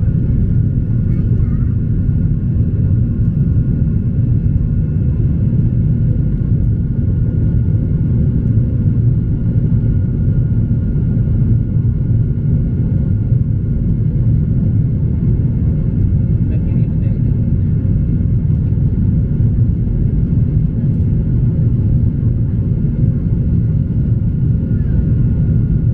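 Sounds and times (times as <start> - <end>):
airplane cabin rumble: 0.0 - 25.9.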